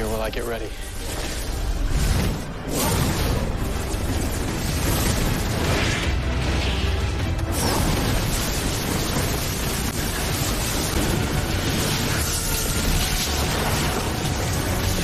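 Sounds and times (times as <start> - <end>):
action soundtrack music: 0.0 - 15.0
hissing crackle effect: 0.0 - 15.0
rumbling and booming effects: 0.9 - 15.0.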